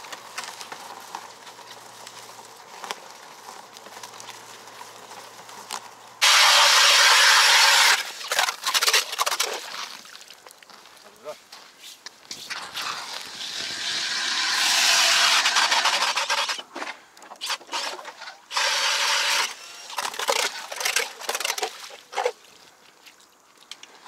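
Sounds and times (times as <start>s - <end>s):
ice auger scraping and crunching: 0.0s - 9.8s, 12.3s - 22.4s.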